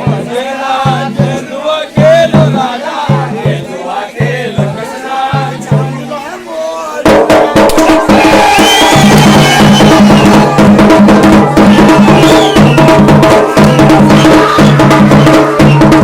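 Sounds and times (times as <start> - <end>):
drums playing fast rhythm: 0.0 - 16.0.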